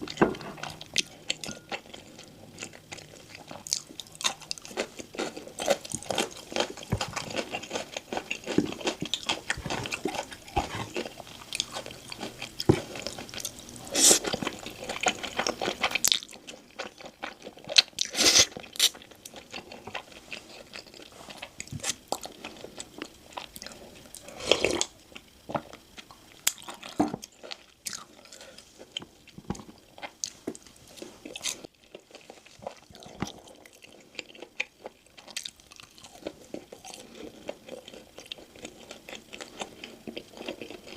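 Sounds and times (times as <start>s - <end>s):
chewing: 0.0s - 40.9s
crunching fried chicken: 0.5s - 40.9s.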